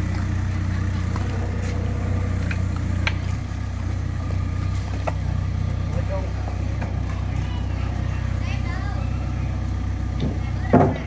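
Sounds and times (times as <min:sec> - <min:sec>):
crane engine humming: 0:00.0 - 0:11.0.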